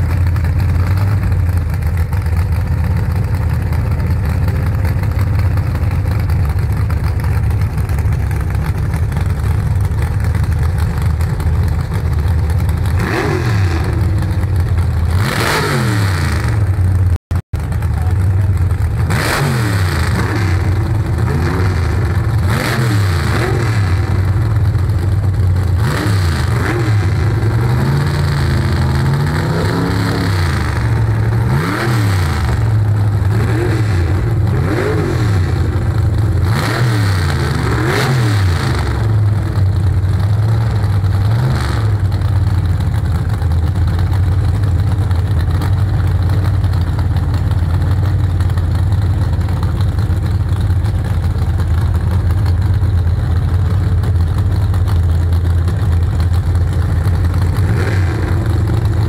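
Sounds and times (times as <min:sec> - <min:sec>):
dragster engine revving: 0:00.0 - 0:59.0.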